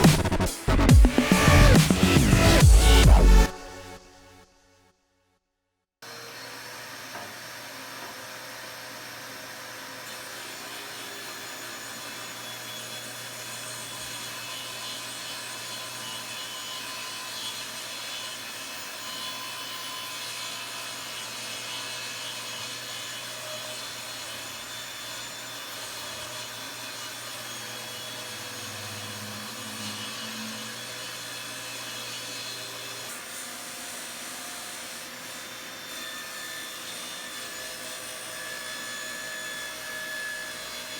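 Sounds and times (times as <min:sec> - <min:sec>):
power saw cutting wood: 0:00.0 - 0:04.0, 0:06.0 - 0:40.9.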